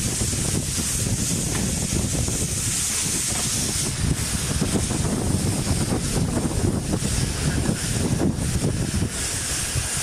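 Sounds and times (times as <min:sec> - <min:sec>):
steam hissing: 0:00.0 - 0:10.0
steam locomotive running slowly: 0:00.0 - 0:10.0
wind on microphone: 0:00.0 - 0:10.0.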